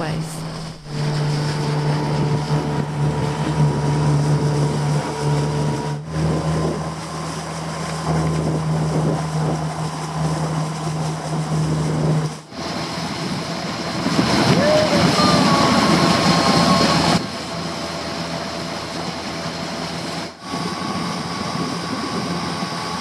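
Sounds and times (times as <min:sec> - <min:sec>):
wind on microphone: 0:00.0 - 0:18.0, 0:20.0 - 0:23.0
outboard motor running: 0:00.0 - 0:23.0
water rushing past hull: 0:00.0 - 0:23.0.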